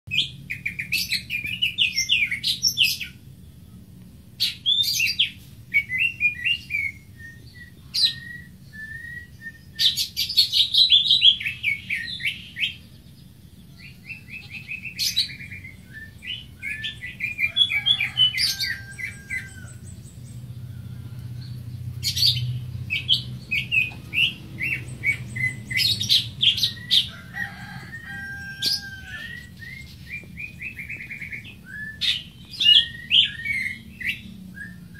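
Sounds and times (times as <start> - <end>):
bird chirps and trills: 0.1 - 34.9
steady low hum: 0.1 - 34.9.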